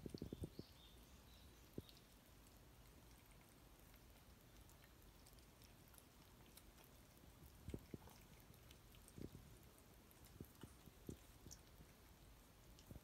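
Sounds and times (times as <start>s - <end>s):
cat chewing dry kibble: 0.0s - 13.0s.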